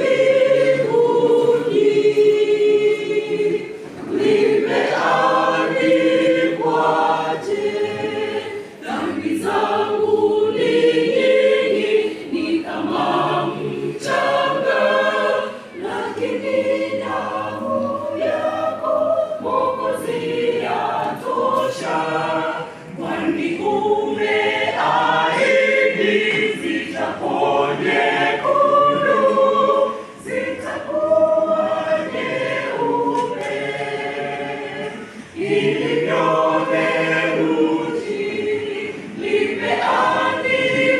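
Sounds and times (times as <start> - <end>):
mixed choir singing gospel: 0.0 - 40.9.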